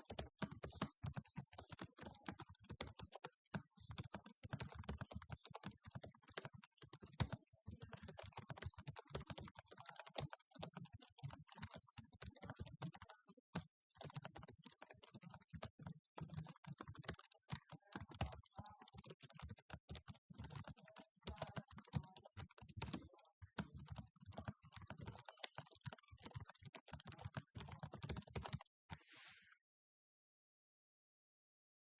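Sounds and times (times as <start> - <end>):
fast typing on keyboard: 0.0 - 28.7.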